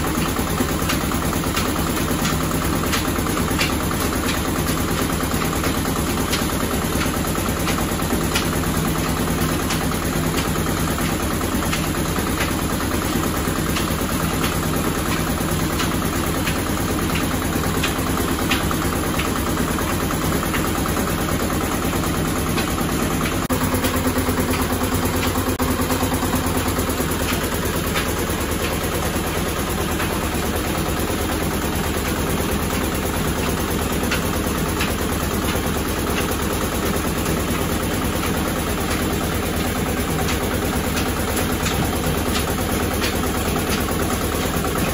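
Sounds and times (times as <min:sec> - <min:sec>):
oil press motor drone: 0:00.0 - 0:44.9.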